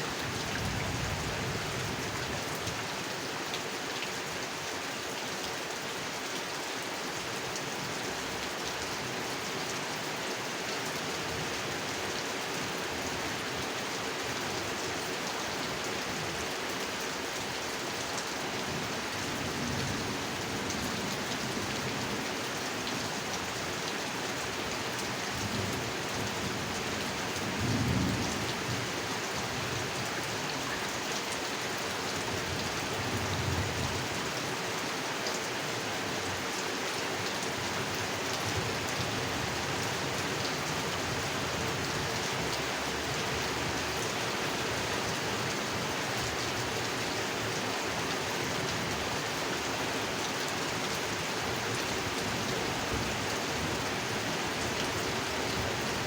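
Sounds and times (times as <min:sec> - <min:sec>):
heavy rain on a pond: 0:00.0 - 0:56.0.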